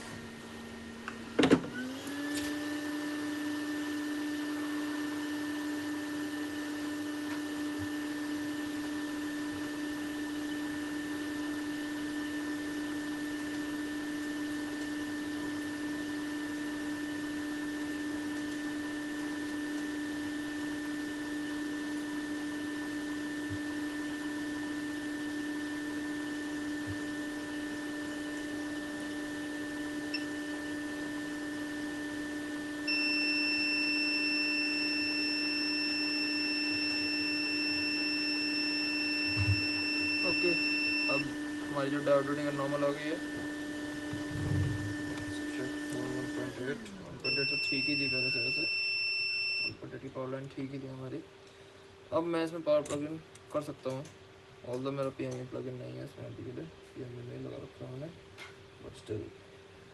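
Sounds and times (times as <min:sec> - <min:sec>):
electric fan motor whine: 0:00.0 - 0:59.9.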